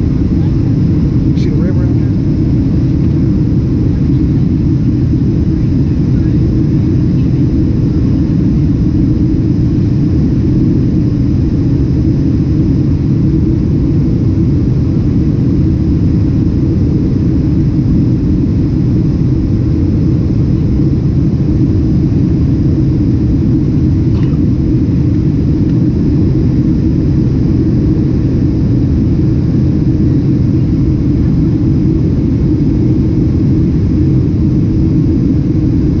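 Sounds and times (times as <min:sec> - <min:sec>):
jet engines roaring in cabin: 0:00.0 - 0:36.0.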